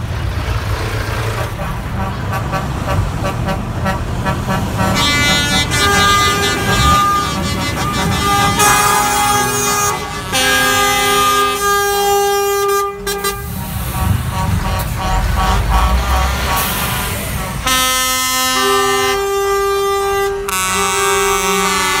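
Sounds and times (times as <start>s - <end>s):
truck diesel engine rumble: 0.0s - 22.0s
lorry air horn blasts: 3.8s - 22.0s.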